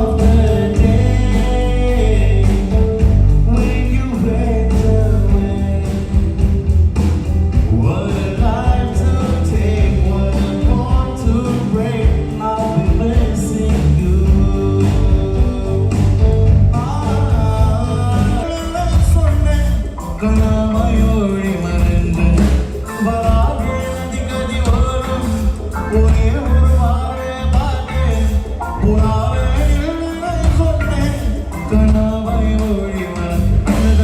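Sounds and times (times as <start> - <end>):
person singing: 0.0 - 6.8, 7.5 - 34.0
band playing with heavy bass: 0.0 - 34.0.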